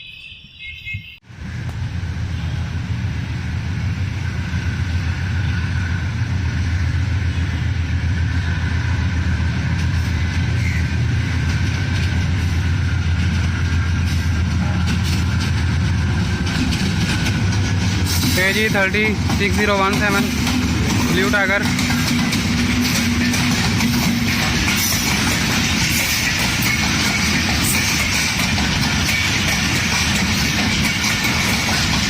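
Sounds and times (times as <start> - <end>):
diesel locomotive engine humming: 1.2 - 32.0.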